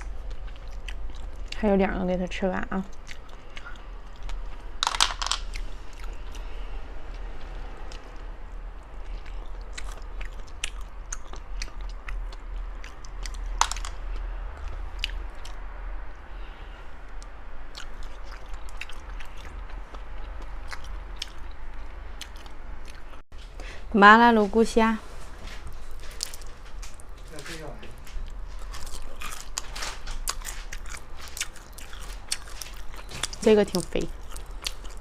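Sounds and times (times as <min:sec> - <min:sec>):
person chewing and crunching: 0:00.0 - 0:01.7, 0:02.8 - 0:15.7, 0:17.1 - 0:23.2, 0:25.4 - 0:35.0
steady low hum: 0:00.0 - 0:35.0.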